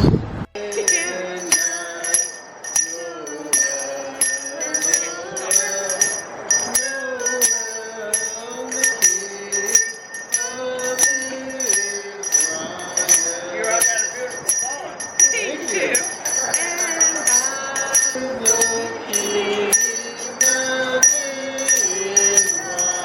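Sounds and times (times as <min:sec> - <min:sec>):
handbell ringing: 0:00.6 - 0:23.0.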